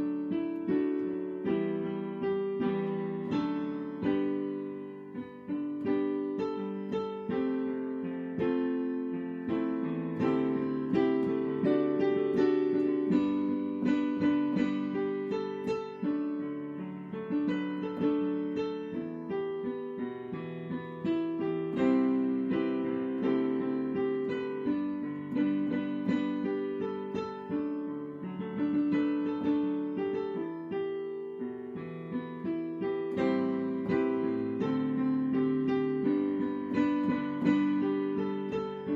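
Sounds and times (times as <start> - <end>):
slow chordal piano piece: 0.0 - 38.9.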